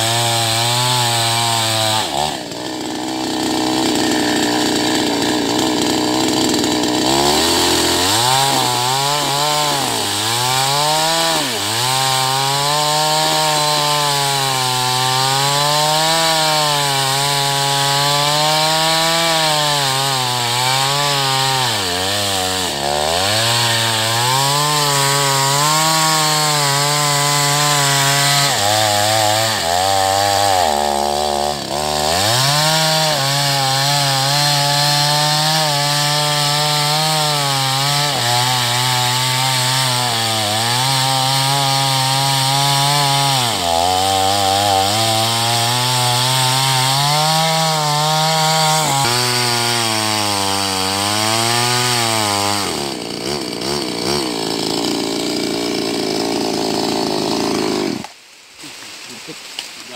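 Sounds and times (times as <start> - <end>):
chainsaw cutting wood: 0.0 - 58.8.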